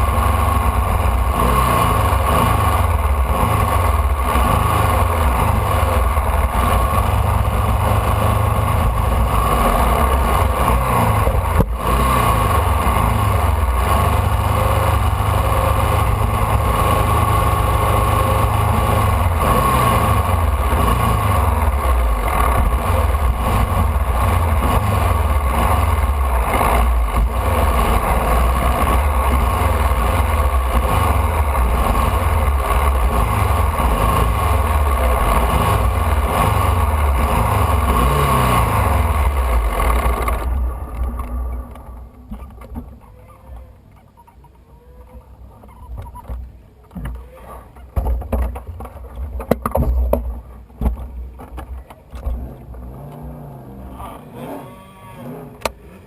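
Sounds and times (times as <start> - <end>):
race car engine revving: 0.0 - 42.9, 50.8 - 56.0.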